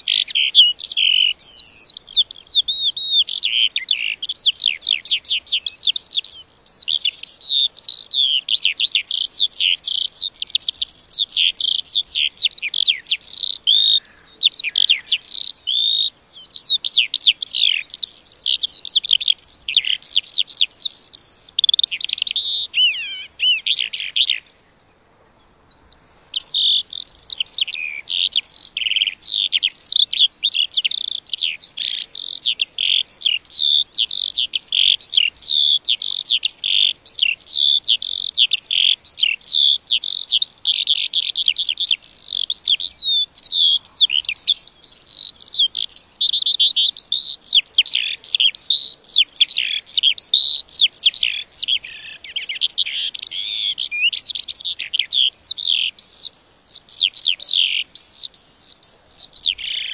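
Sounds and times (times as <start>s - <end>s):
lark singing: 0.0s - 59.9s.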